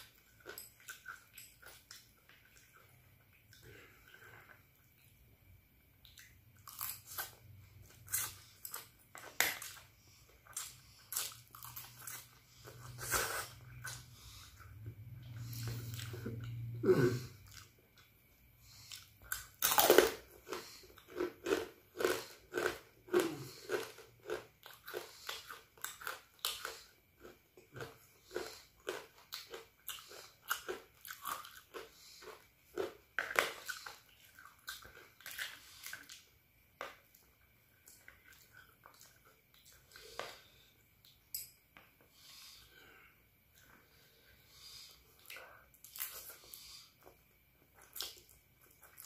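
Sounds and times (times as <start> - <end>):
chewing crunchy food: 0.0 - 5.3, 6.0 - 41.4, 44.8 - 49.0.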